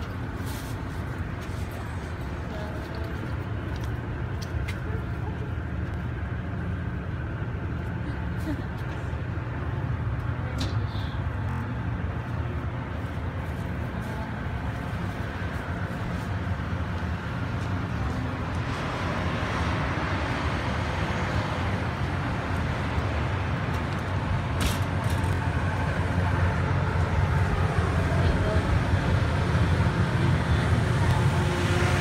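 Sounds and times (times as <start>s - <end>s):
street traffic rumble: 0.0s - 32.0s.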